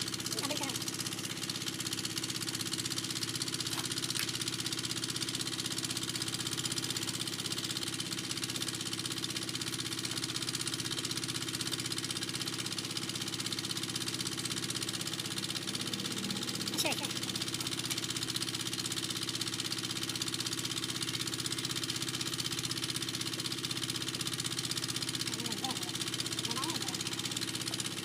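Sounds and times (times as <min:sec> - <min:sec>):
machine running with fast pulse: 0:00.0 - 0:28.0.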